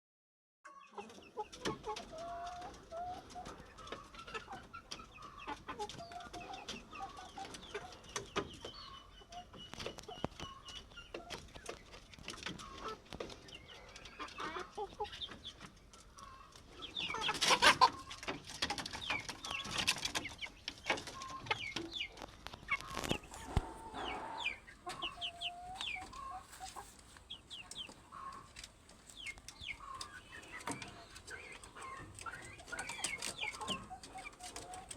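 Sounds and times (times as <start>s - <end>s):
chickens clucking: 0.7s - 34.9s.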